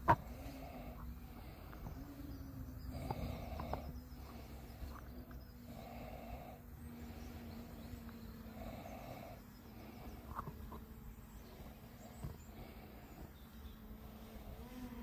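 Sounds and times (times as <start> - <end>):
person breathing close: 0.0 - 10.8, 11.4 - 13.4
steady low hum: 0.0 - 15.0.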